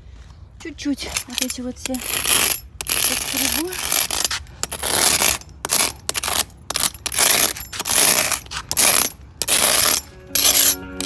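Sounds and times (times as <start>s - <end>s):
metal scraper scratching paving: 1.0s - 11.0s.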